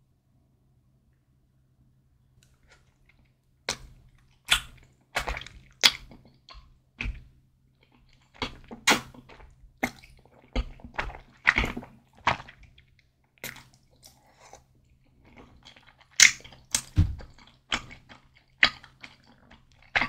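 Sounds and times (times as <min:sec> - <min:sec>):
slurping and chewing noodles: 0:02.5 - 0:20.0.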